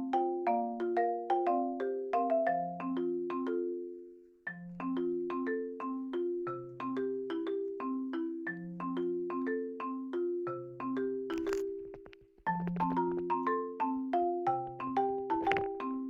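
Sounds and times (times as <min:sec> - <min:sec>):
bouncy marimba melody: 0:00.0 - 0:16.0.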